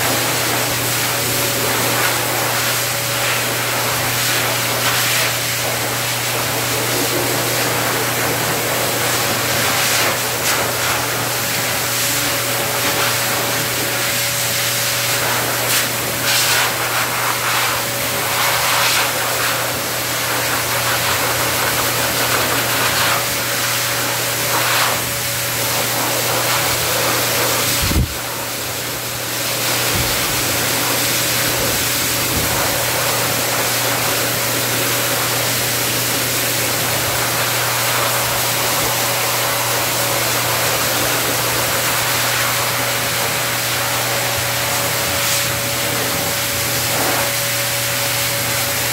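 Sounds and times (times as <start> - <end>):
hose dryer blowing air: 0.0 - 48.9.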